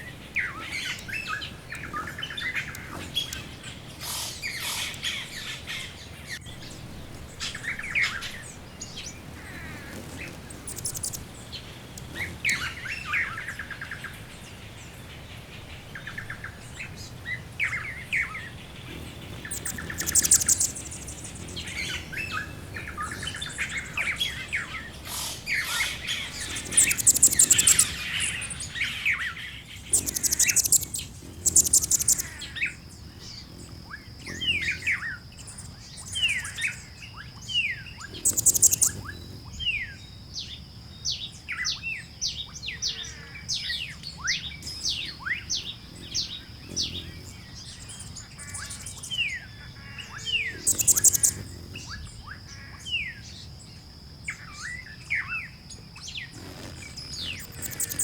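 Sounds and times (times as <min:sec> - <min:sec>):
bird trills: 0:00.0 - 0:35.2, 0:37.9 - 0:39.9, 0:42.4 - 0:53.2, 0:56.4 - 0:58.0
birds chirping: 0:00.0 - 0:58.0.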